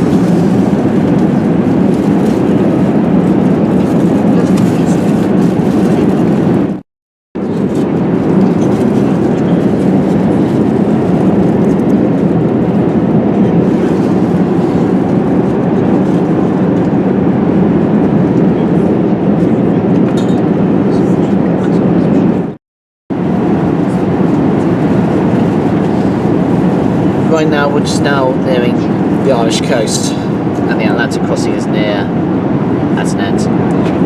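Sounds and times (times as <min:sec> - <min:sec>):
airplane cabin noise: 0:00.0 - 0:06.8, 0:07.4 - 0:34.0.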